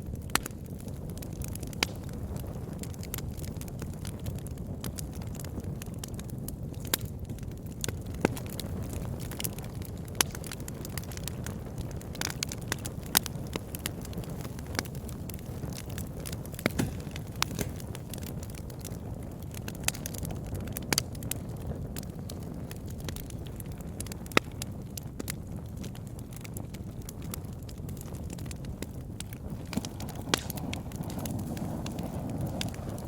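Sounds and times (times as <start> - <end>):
fire crackling and popping: 0.0 - 33.0
rush of flames: 0.0 - 33.0.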